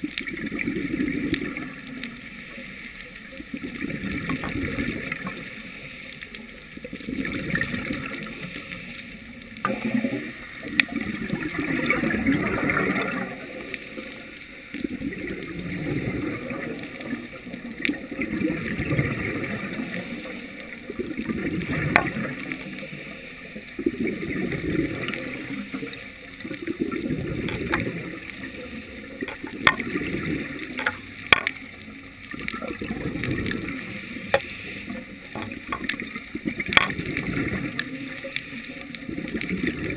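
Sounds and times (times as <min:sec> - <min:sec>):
diver exhaling bubbles underwater: 0:00.0 - 0:02.0, 0:03.5 - 0:05.6, 0:06.8 - 0:08.7, 0:09.6 - 0:31.6, 0:32.3 - 0:39.9.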